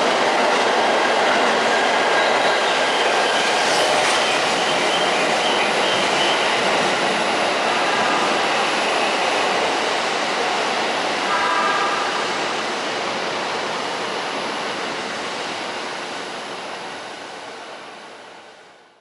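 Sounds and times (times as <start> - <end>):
electric train departing: 0.0 - 19.0.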